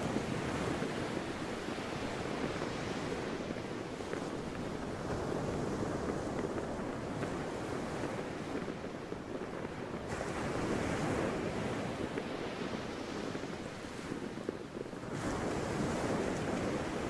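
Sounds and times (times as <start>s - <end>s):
sea waves washing in: 0.0s - 17.0s
wind: 0.0s - 17.0s.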